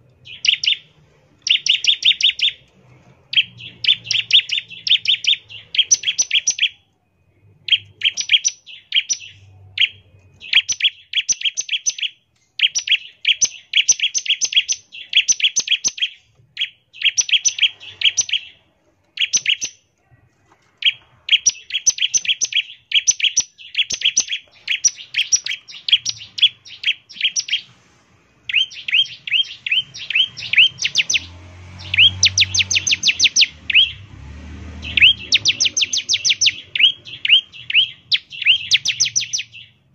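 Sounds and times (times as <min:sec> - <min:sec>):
bird singing rapid chirps: 0:00.0 - 0:19.9, 0:20.8 - 0:27.7, 0:28.4 - 0:39.9.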